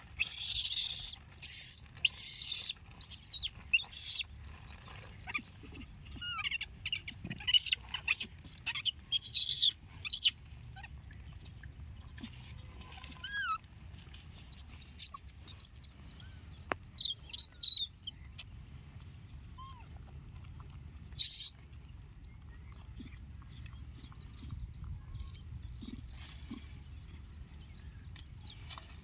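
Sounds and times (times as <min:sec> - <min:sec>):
animal chirps and squeaks: 0:00.0 - 0:18.5, 0:19.4 - 0:20.0, 0:21.1 - 0:29.0.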